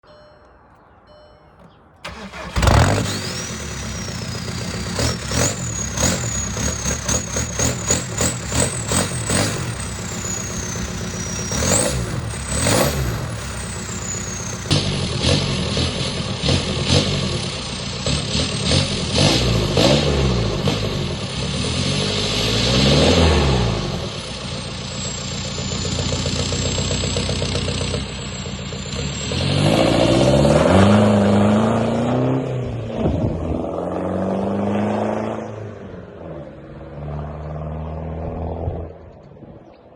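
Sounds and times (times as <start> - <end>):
diesel engine revving: 2.0 - 39.0.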